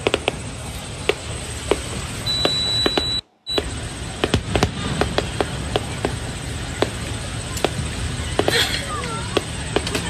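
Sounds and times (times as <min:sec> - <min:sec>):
fireworks bangs: 0:00.0 - 0:10.0
steady low rumble: 0:00.0 - 0:10.0.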